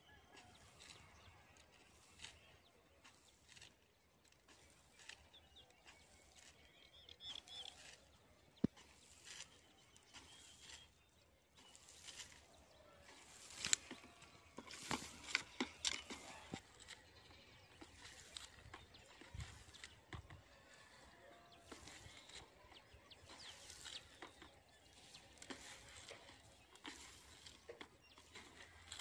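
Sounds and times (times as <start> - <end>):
fertilizer swishing and pattering: 0.2 - 29.0.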